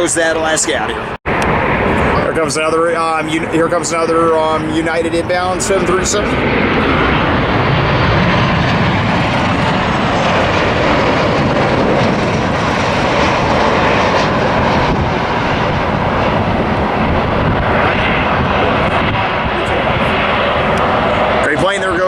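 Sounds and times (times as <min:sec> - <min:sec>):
jet airliner passing low: 0:00.0 - 0:22.0.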